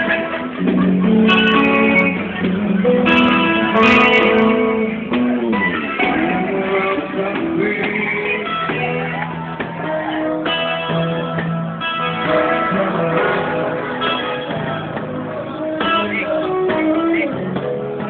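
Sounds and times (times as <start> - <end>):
cajon beat: 0.0 - 18.0
electric guitar melody: 0.0 - 18.0
second guitar: 0.0 - 18.0.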